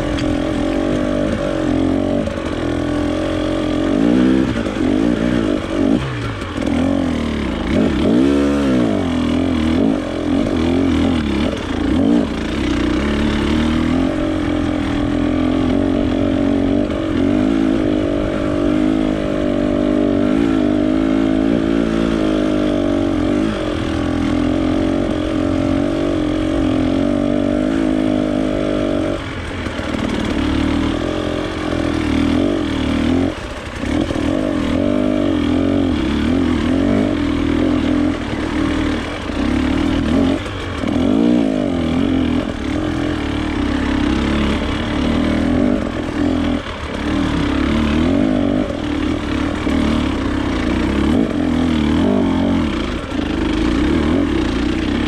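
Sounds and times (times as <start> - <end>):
trail motorcycle engine revving: 0.0 - 55.0.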